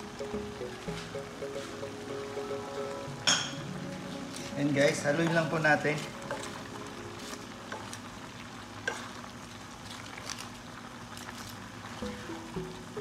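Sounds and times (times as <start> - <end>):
cooking hiss in pot: 0.0 - 13.0.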